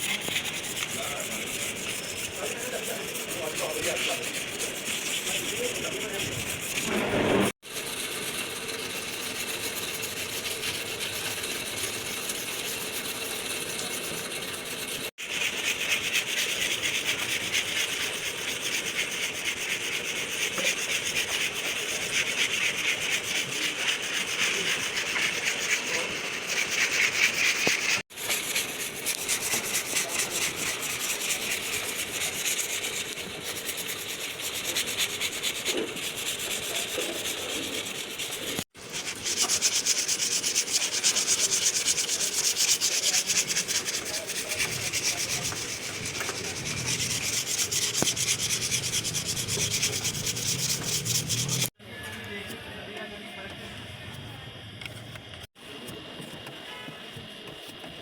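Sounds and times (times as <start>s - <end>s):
sanding car bodywork: 0.0s - 51.8s.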